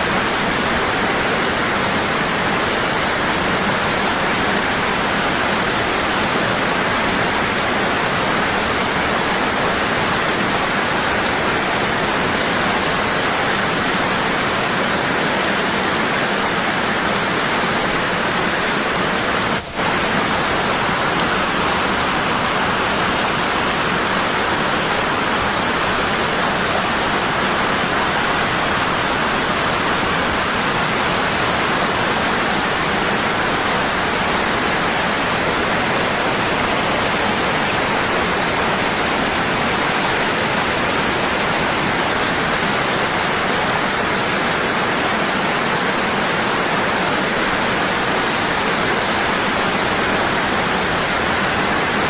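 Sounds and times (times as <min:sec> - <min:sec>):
waterfall rushing roar: 0:00.0 - 0:52.0.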